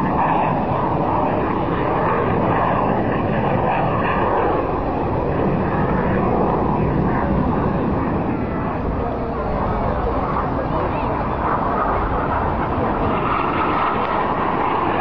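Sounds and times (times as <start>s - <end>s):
jet engines flying overhead: 0.0s - 15.0s.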